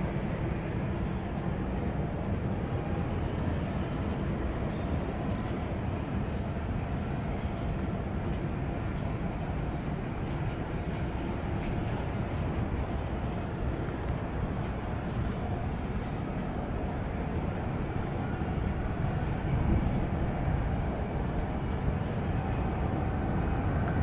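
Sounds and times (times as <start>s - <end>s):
distant jet engines rumbling: 0.0s - 24.0s.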